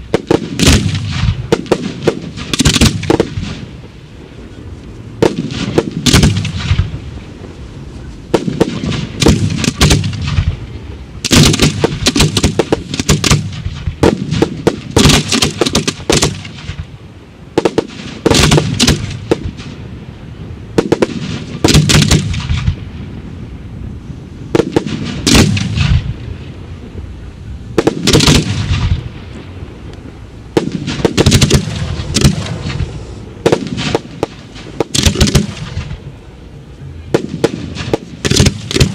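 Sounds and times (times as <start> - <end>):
fireworks banging and crackling: 0.0 - 38.9
low rumbling echo: 0.0 - 38.9.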